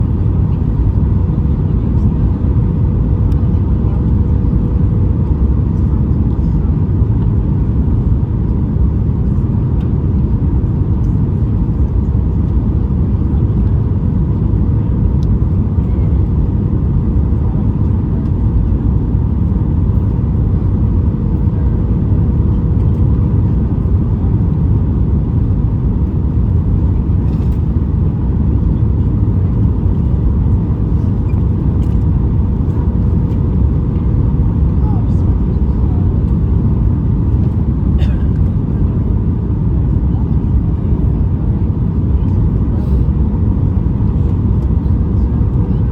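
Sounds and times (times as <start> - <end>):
airplane cabin roar: 0.0 - 45.9.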